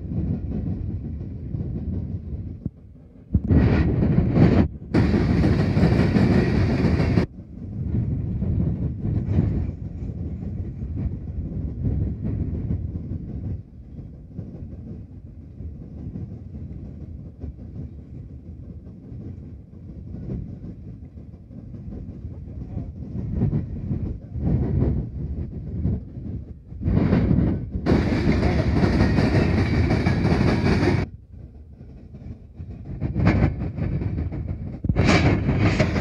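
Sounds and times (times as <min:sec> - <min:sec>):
clickety-clack of wheels: 0:00.0 - 0:36.0
train wheels rumbling on rail: 0:00.0 - 0:36.0.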